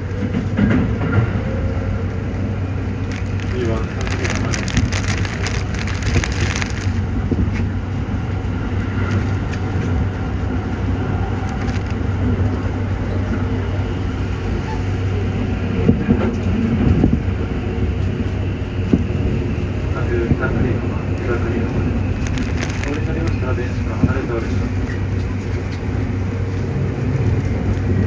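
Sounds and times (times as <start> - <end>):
electric train rumbling: 0.0 - 28.0
heavy rain on train car: 0.0 - 28.0.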